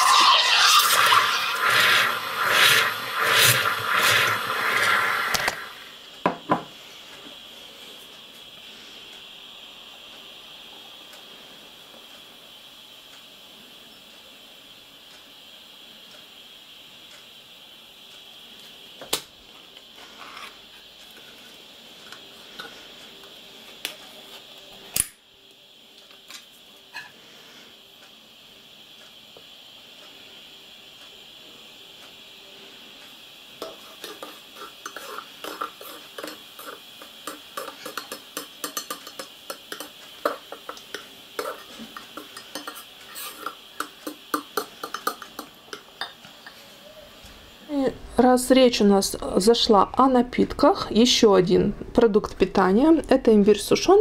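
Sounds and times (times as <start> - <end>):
steam wand frothing milk: 0.0 - 24.8, 26.6 - 49.8
faint steady hiss: 0.0 - 54.0.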